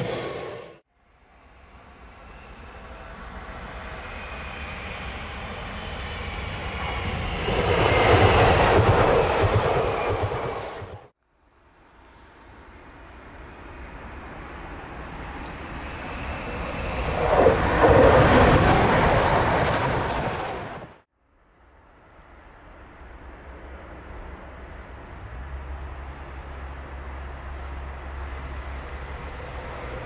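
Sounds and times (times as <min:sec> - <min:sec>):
train passing: 0:00.0 - 0:21.1, 0:22.0 - 0:30.0.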